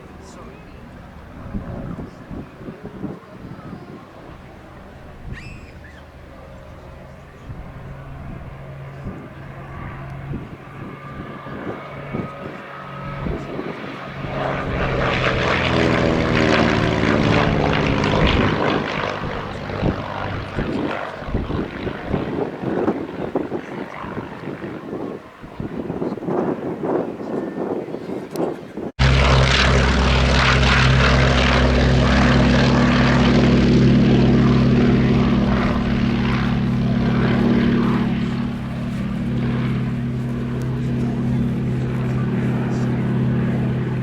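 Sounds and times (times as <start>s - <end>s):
propeller plane flying past: 0.0s - 44.0s
wind buffeting microphone: 0.0s - 44.0s.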